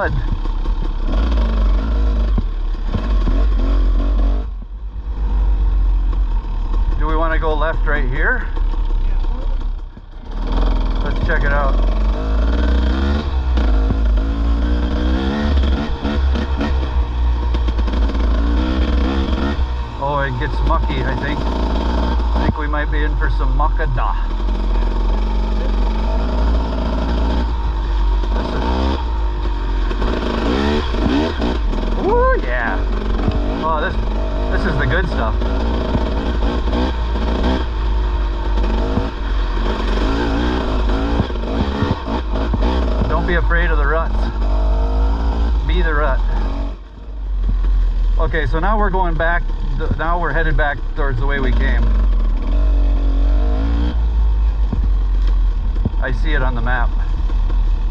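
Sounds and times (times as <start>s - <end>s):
dirt bike engine revving: 0.0s - 57.9s
low rumble: 0.0s - 57.9s.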